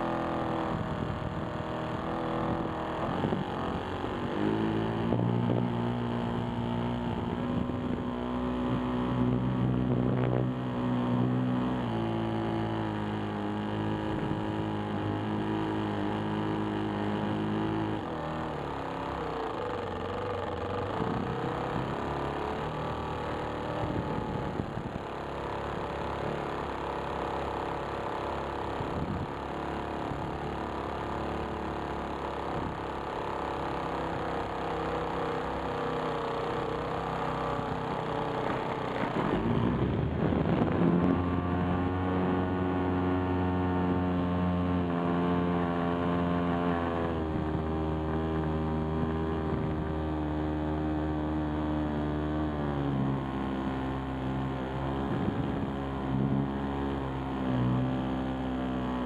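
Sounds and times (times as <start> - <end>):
model airplane motor droning: 0.0 - 59.0.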